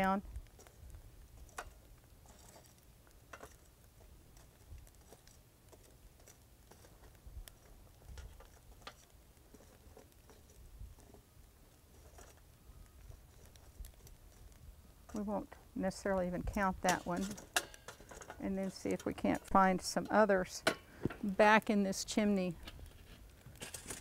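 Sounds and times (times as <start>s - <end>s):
metal tongs clicking on charcoal: 0.0s - 24.0s.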